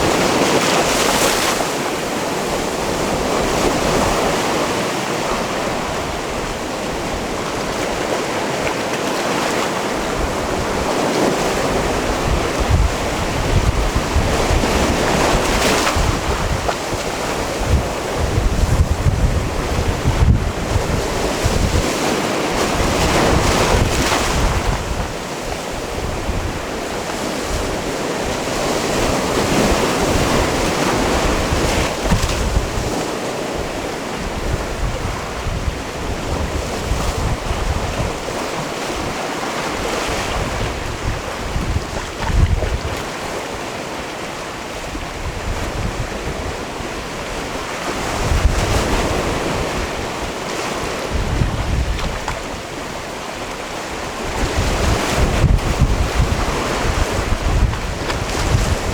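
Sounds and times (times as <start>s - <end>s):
sea waves washing onto rocks: 0.0s - 58.9s
wind buffeting microphone: 0.0s - 58.9s.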